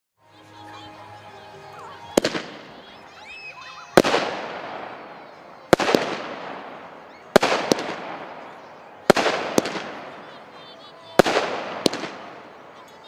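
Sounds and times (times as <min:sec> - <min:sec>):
fireworks bangs: 0:01.9 - 0:13.0.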